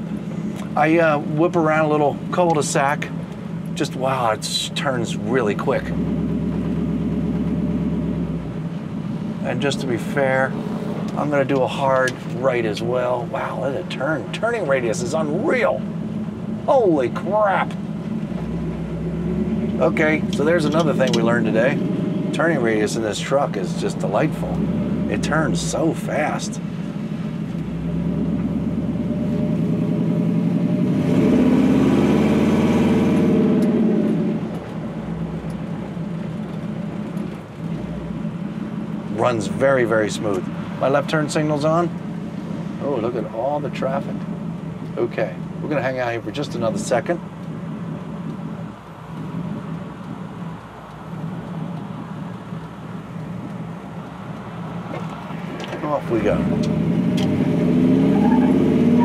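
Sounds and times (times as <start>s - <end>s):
pickup engine accelerating: 0.0s - 59.0s.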